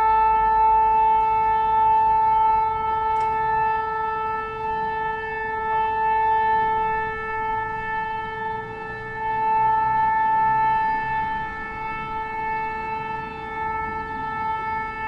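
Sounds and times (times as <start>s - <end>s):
alarm siren steady tone: 0.0s - 15.0s.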